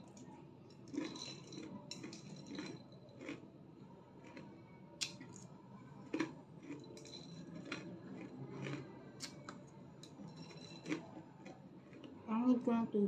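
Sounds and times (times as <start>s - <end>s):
chewing crunchy cereal: 0.0s - 3.5s, 4.1s - 12.3s.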